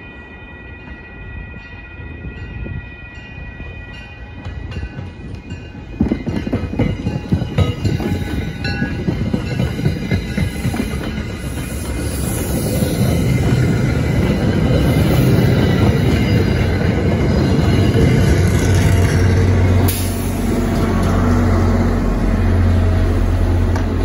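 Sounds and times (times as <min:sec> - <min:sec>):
diesel locomotive drone: 0:00.0 - 0:24.0
train wheels rumbling on rail: 0:00.8 - 0:24.0.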